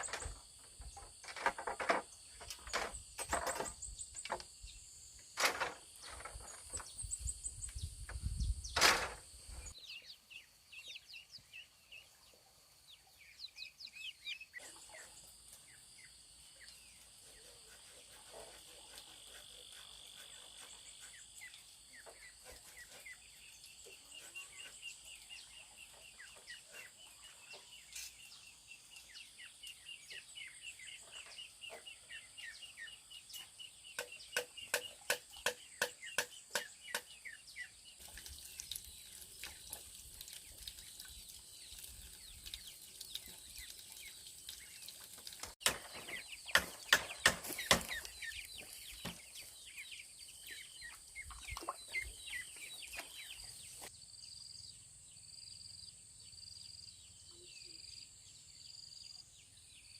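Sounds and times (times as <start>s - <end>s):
birds chirping: 0.0s - 54.7s.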